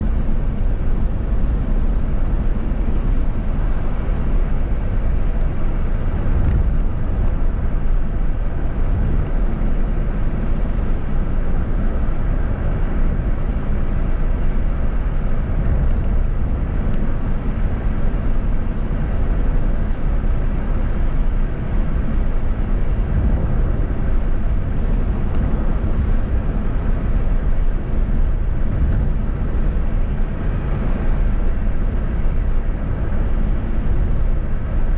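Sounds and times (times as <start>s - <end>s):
vehicle road and wind noise: 0.0s - 34.9s.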